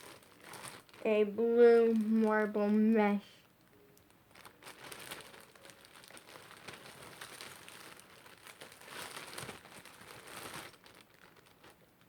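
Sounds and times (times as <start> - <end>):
plastic packaging crinkling: 0.0 - 2.9, 3.5 - 12.0.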